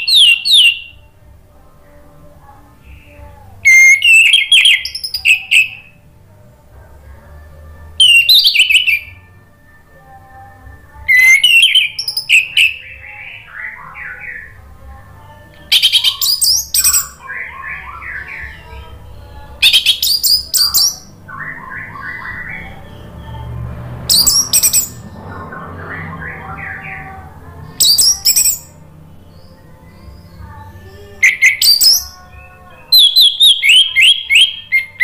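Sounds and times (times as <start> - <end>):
thrush singing: 0.0 - 35.0.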